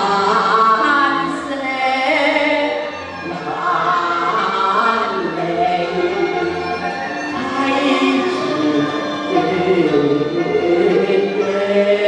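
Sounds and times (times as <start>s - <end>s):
instrumental accompaniment: 0.0s - 12.0s
opera singing: 0.0s - 12.0s.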